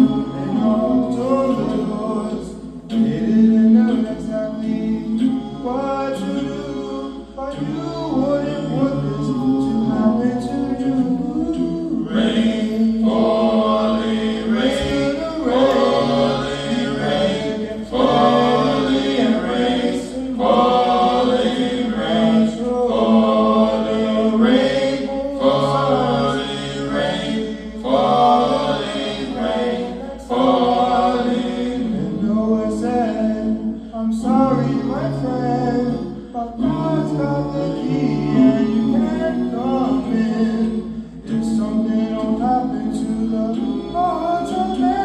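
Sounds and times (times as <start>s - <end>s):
layered overlapping voices: 0.0s - 45.0s.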